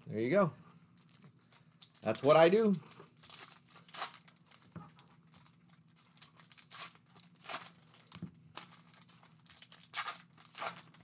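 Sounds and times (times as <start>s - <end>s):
foil wrappers crinkling: 1.0s - 11.0s.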